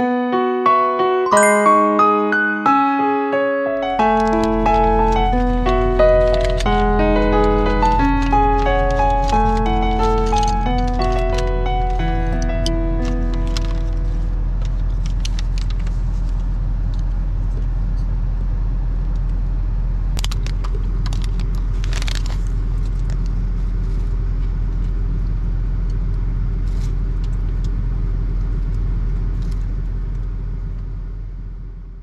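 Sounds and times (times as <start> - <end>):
car engine and tyre rumble: 3.8 - 32.0.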